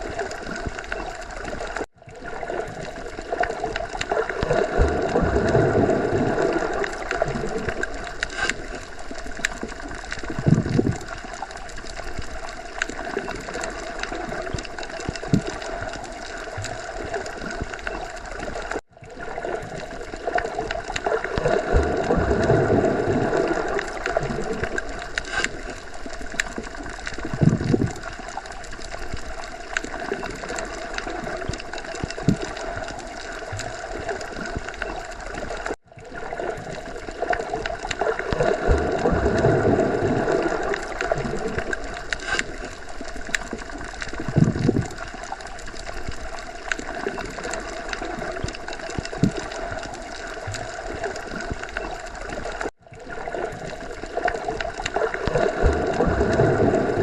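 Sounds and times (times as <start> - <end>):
underwater gurgling water: 0.0 - 57.0.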